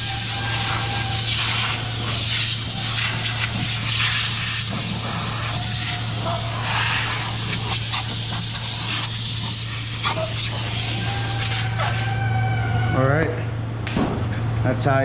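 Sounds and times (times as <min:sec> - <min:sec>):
compressed air blow gun hissing: 0:00.0 - 0:12.2
steady low hum: 0:00.0 - 0:15.0.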